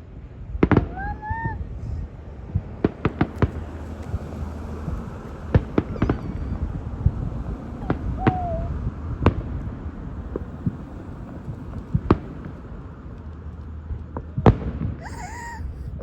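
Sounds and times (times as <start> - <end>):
steady low rumble: 1.7 - 16.0.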